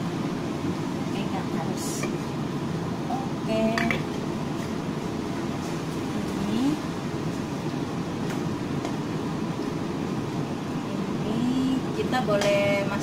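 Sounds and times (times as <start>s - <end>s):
range hood exhaust fan: 0.0s - 13.0s.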